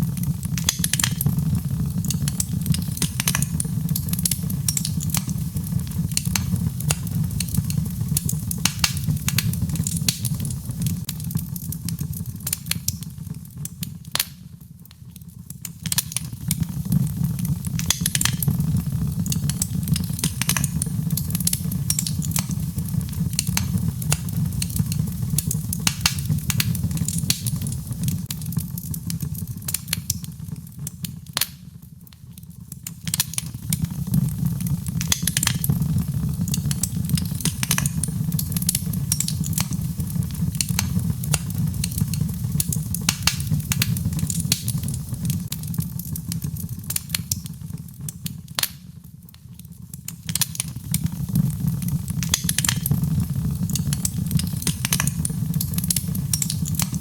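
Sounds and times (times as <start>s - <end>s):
logs crackling in fireplace: 0.0s - 57.0s.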